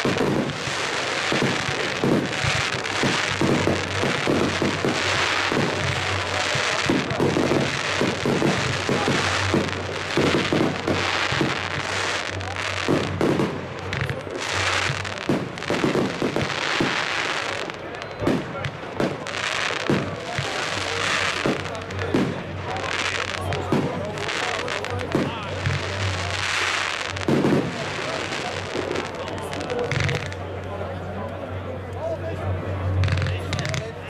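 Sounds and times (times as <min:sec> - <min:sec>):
fireworks bangs and crackles: 0:00.0 - 0:31.6, 0:32.4 - 0:34.0.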